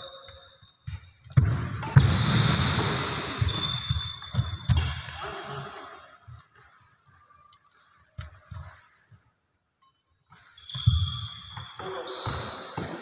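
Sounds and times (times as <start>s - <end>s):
footsteps on wooden court: 0.0s - 9.3s, 10.3s - 13.0s.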